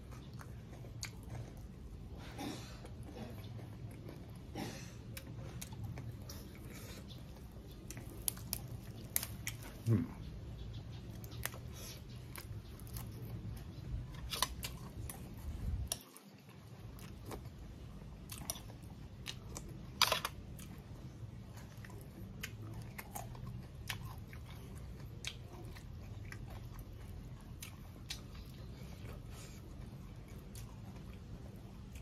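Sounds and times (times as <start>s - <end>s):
chewing crisp herbs: 0.0s - 32.0s.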